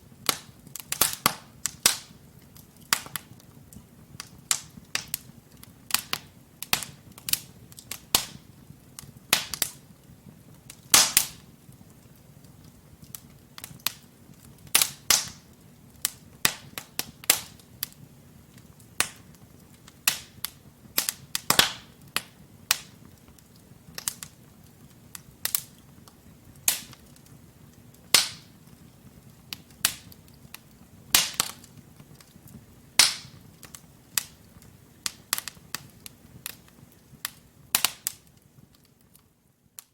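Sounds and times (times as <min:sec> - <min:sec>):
low rumble of flame: 0:00.0 - 0:39.9
burning logs popping and snapping: 0:00.2 - 0:39.9.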